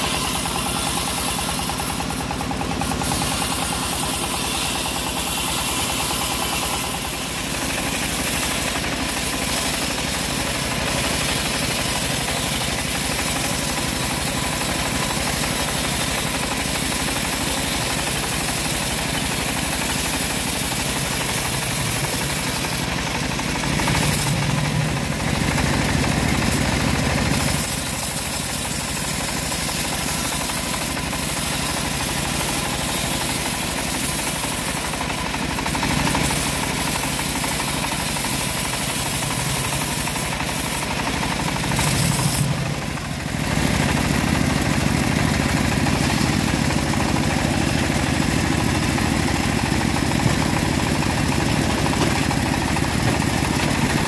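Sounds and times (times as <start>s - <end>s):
bandsaw cutting through log: 0.0s - 54.0s.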